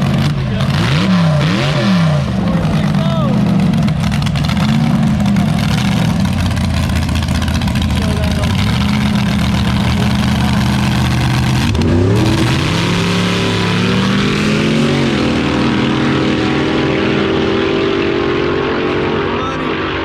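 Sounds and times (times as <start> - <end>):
dragster engine revving and launching: 0.0 - 20.0.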